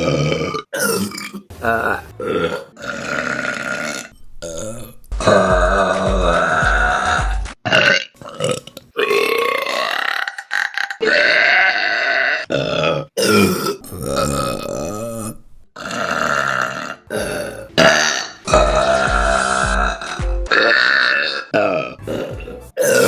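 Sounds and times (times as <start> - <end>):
woman belching: 0.0 - 23.0.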